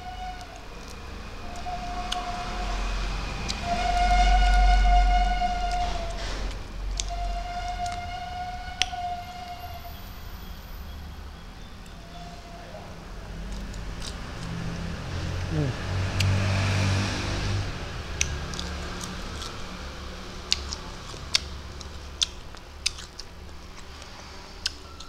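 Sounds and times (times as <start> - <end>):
vehicle passing by: 0.0 - 25.0.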